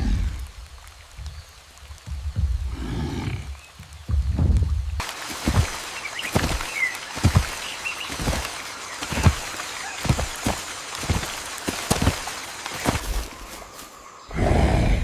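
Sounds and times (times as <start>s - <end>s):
heavy thuds of falling water: 0.0s - 13.4s
rain hissing: 0.0s - 15.0s.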